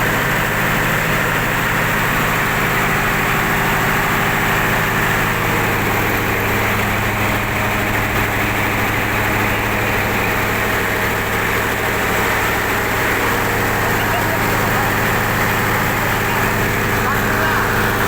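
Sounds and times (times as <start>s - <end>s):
diesel generator engine running: 0.0s - 18.0s.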